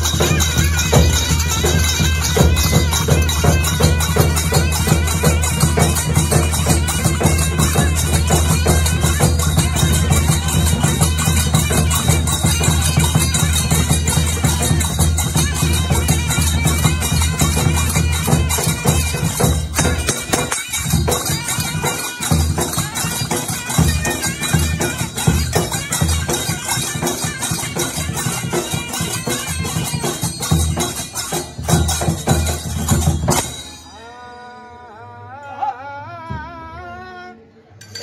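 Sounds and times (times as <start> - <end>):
reed pipe melody: 0.0 - 32.2
large drums beaten fast: 0.0 - 33.6
hand cymbals clashing: 0.0 - 34.9, 37.8 - 38.0.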